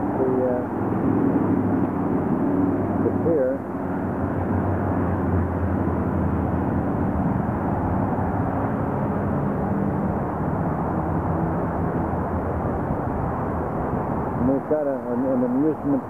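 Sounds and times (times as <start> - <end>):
road traffic drone: 0.0 - 16.0.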